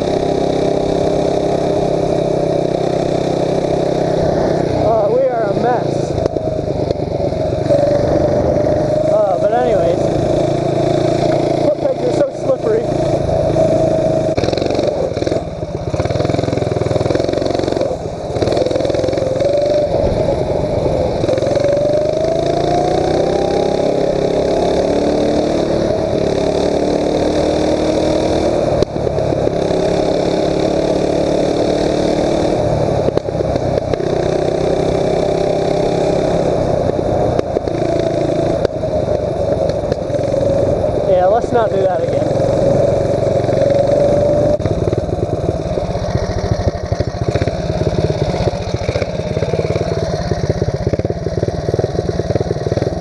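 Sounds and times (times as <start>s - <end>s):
mini bike engine revving: 0.0s - 53.0s.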